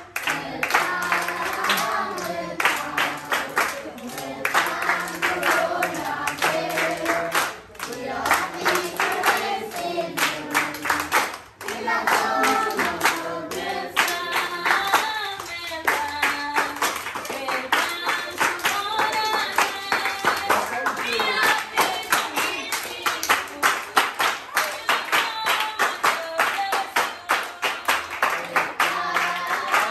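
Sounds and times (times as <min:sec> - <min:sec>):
hands clapping in rhythm: 0:00.0 - 0:29.9.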